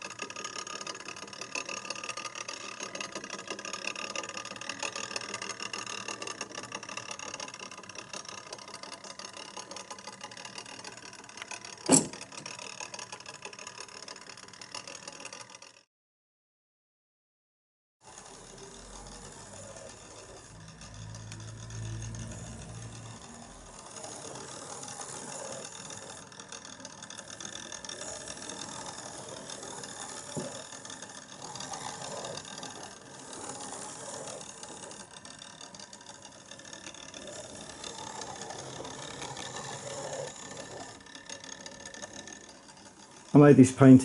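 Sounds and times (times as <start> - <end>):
clockwork mechanism running: 0.0 - 15.9, 18.0 - 44.0.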